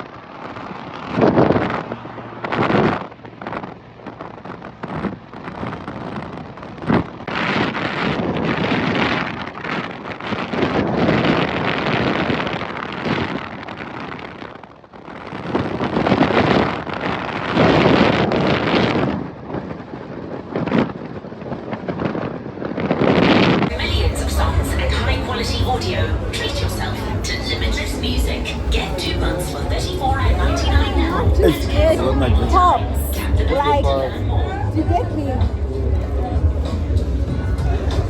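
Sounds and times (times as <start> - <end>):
wind buffeting the microphone: 0.0 - 38.0.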